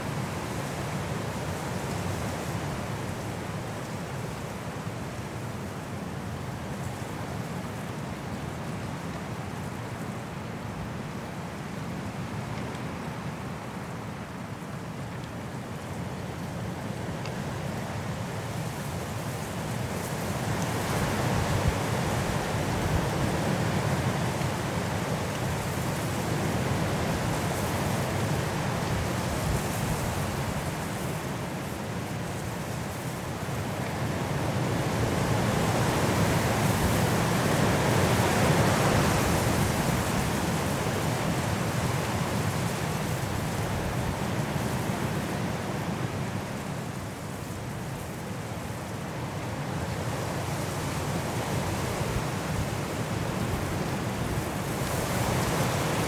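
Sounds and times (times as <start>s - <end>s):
strong wind through trees: 0.0s - 56.0s.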